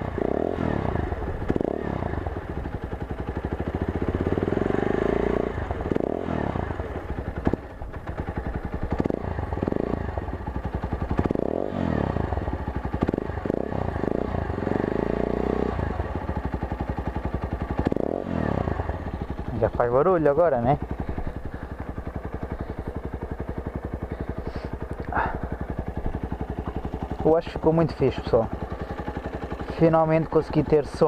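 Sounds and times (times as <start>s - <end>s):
loud open exhaust: 0.0s - 31.0s
motorcycle engine revving: 0.0s - 31.0s.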